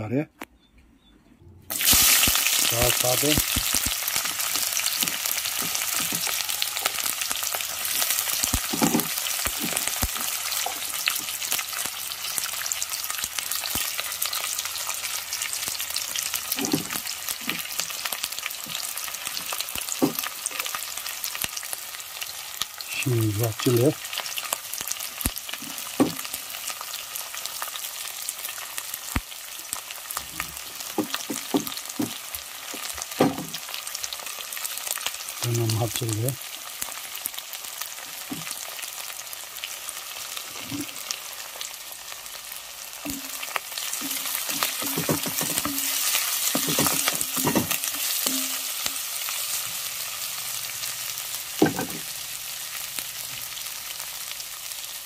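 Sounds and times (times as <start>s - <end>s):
onions sizzling in oil: 1.7s - 55.0s.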